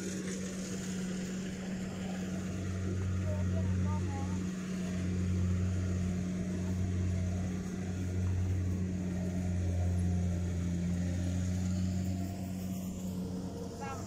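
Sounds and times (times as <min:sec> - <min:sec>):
combine harvester engine humming: 0:00.0 - 0:14.0.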